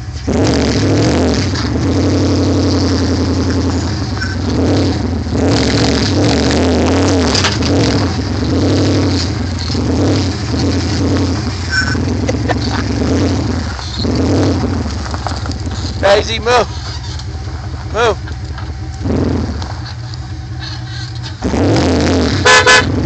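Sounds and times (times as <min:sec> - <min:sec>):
pickup truck engine running: 0:00.0 - 0:23.0.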